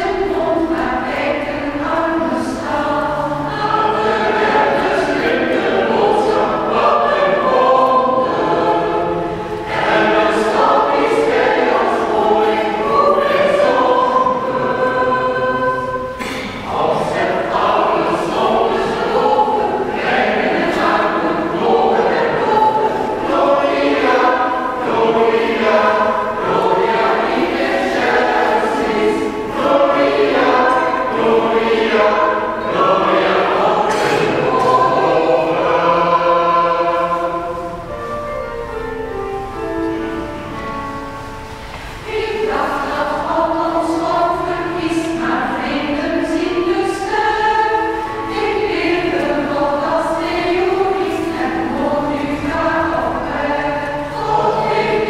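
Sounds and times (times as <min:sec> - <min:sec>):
church choir singing: 0:00.0 - 0:55.0.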